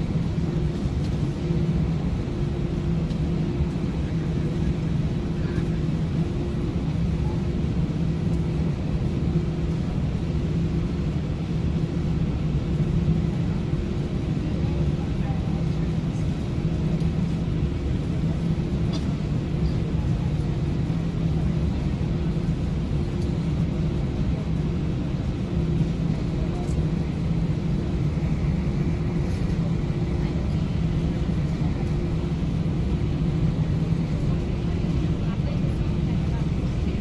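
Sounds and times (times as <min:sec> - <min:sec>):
jet engines humming in cabin: 0:00.0 - 0:37.0.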